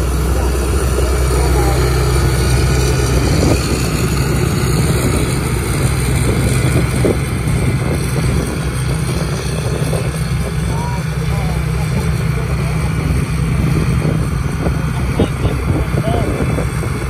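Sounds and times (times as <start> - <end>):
combine harvester engine drone: 0.0 - 17.0.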